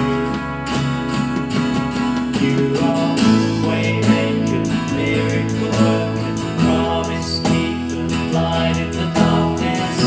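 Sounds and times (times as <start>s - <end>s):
strummed acoustic guitar: 0.0s - 10.0s
worship band playing: 0.0s - 10.0s.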